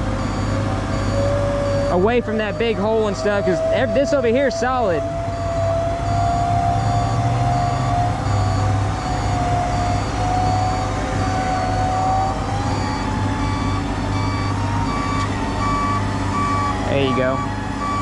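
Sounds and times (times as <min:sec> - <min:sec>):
electric winch whining: 0:00.0 - 0:18.0
low engine drone: 0:00.0 - 0:18.0
reversing alarm beeps: 0:00.0 - 0:18.0.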